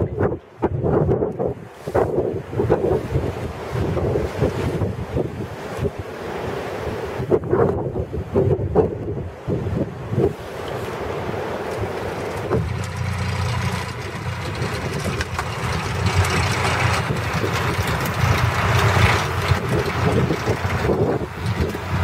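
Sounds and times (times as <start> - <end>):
blizzard wind gusting: 0.0 - 22.0.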